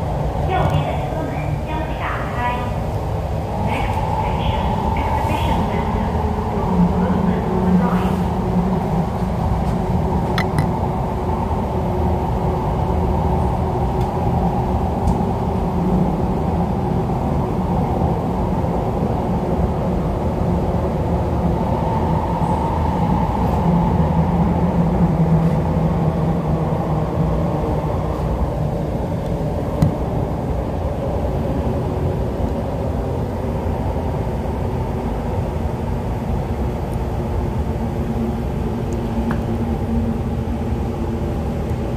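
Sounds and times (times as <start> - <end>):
train motor hum: 0.0 - 41.9
train rumbling at speed: 0.0 - 41.9.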